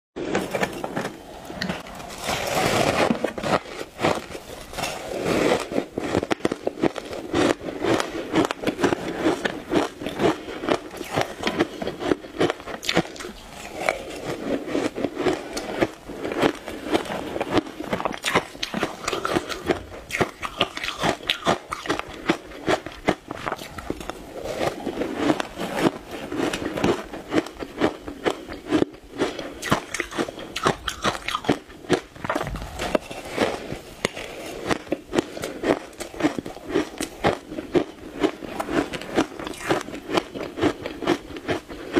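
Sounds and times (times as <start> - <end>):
ice crunching being chewed: 0.2 - 41.9.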